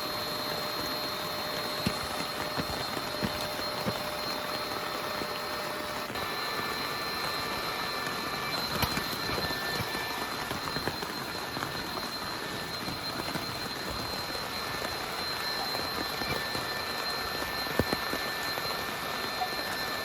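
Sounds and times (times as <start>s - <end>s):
raindrops striking close by: 0.8s - 18.9s.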